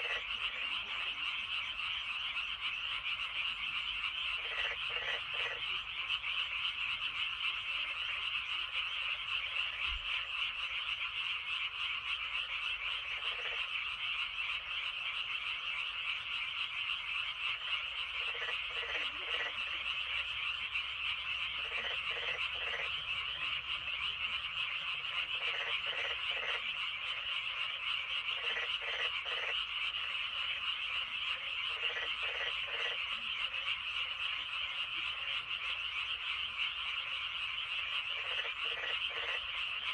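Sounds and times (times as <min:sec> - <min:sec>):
frogs trilling in chorus: 0:00.0 - 0:39.9
lower frog croaks: 0:00.0 - 0:39.9.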